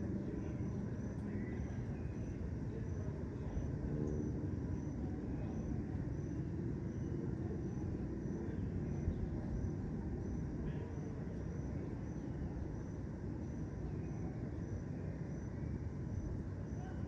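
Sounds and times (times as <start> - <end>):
cricket chirping: 0.0 - 17.0
distant city traffic rumble: 0.0 - 17.0.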